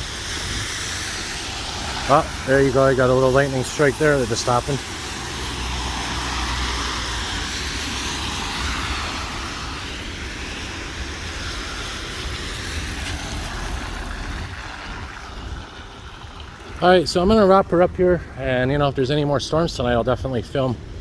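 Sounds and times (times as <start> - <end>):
airplane passing overhead: 0.0 - 19.6.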